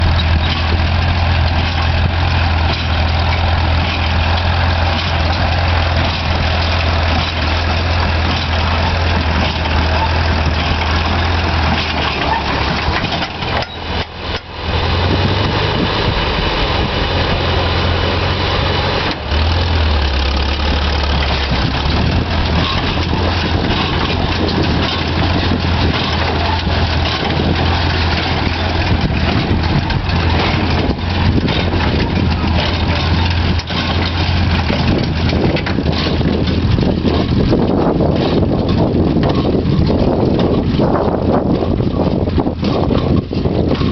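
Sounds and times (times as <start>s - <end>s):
hay baler pressing hay: 0.0s - 43.9s
tractor engine running: 0.0s - 43.9s.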